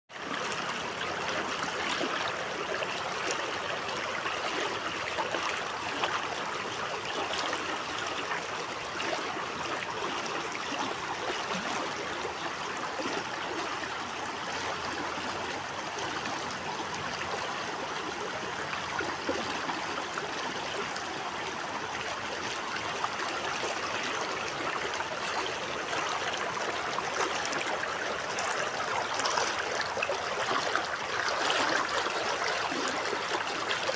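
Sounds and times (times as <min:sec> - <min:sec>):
river water babbling over stones: 0:00.1 - 0:33.9.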